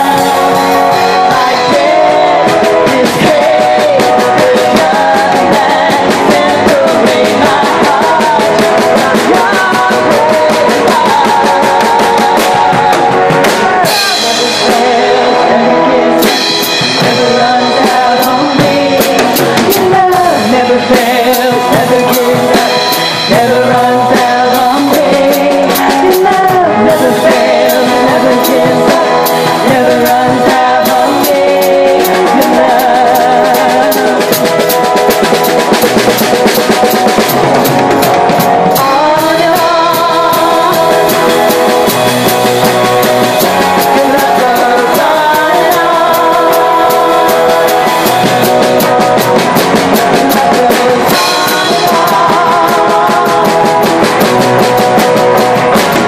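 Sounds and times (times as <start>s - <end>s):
drum kit: 0.0s - 56.0s
guitar: 0.0s - 56.0s
person singing: 0.0s - 56.0s.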